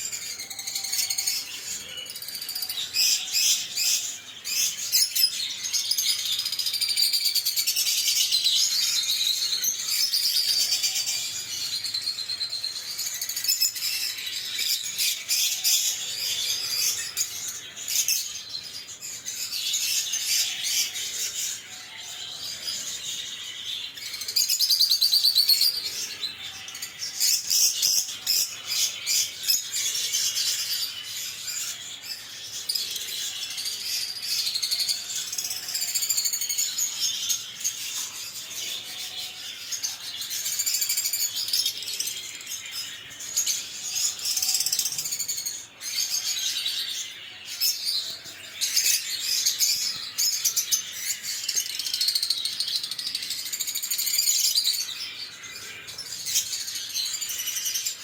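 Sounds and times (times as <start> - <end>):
birds chirping and chattering: 0.0 - 58.0.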